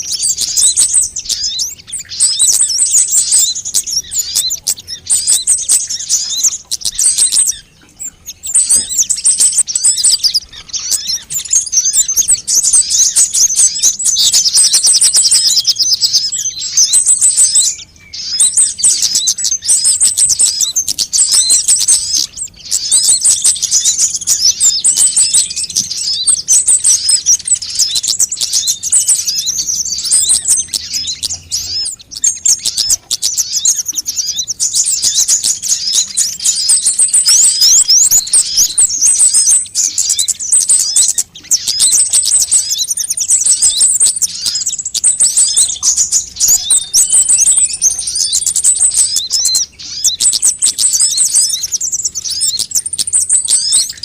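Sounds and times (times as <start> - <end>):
bird chirping trills: 0.0 - 54.0.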